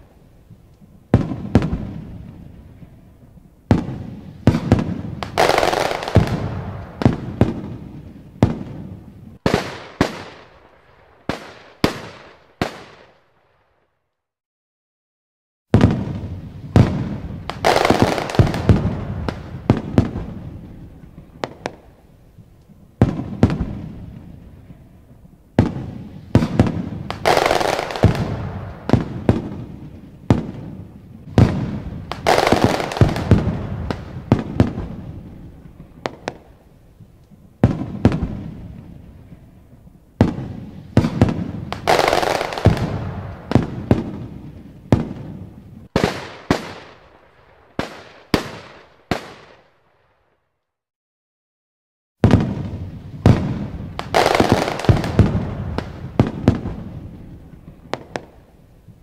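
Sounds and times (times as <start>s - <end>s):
fireworks bursting with sharp bangs: 0.0s - 14.1s, 15.7s - 50.6s, 52.2s - 59.0s.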